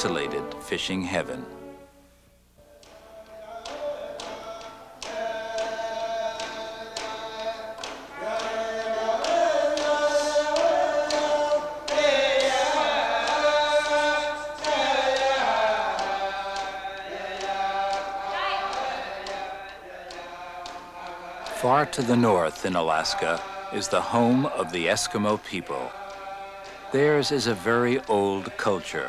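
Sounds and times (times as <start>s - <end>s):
voices singing together: 0.0s - 1.7s, 2.6s - 29.0s.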